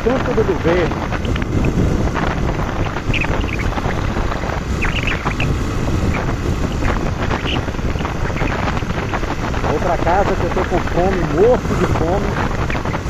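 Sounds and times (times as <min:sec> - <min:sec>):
motorcycle road and engine noise: 0:00.0 - 0:13.0
wind buffeting microphone: 0:00.0 - 0:13.0.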